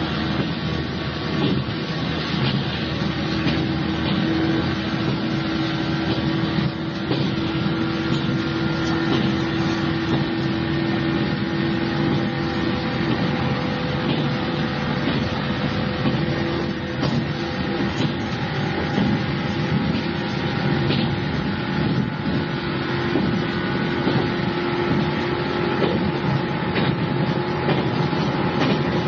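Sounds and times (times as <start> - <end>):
constant hum: 0.0 - 29.0
train wheels rumbling on rails: 0.0 - 29.0.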